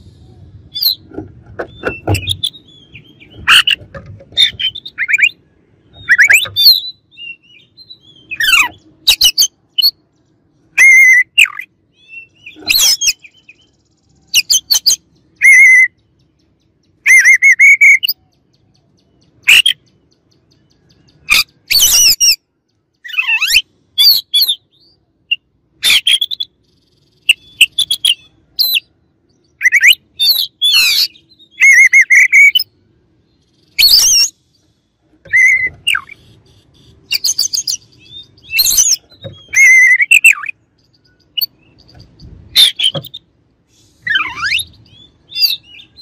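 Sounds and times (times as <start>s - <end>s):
songbird singing varied song: 0.0s - 46.0s.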